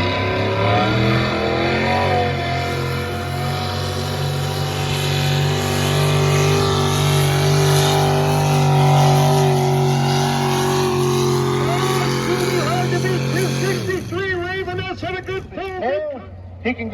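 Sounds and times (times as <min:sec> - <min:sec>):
truck engine under heavy load: 0:00.0 - 0:16.7.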